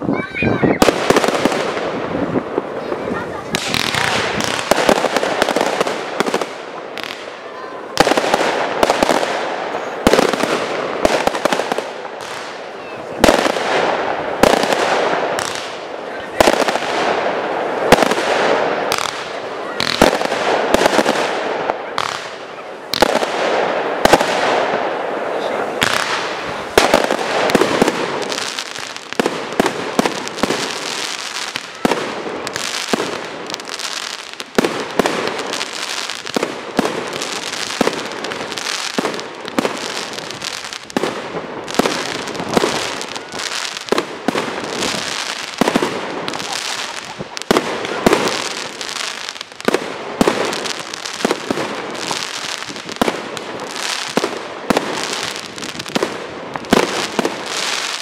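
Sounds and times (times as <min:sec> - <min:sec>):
crackling hiss of fireworks: 0:00.0 - 0:58.0
fireworks bangs: 0:00.0 - 0:58.0.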